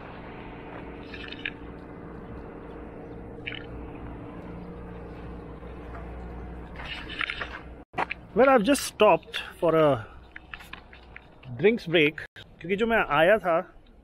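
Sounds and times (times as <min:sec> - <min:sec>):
engine-like hum: 0:00.0 - 0:13.9.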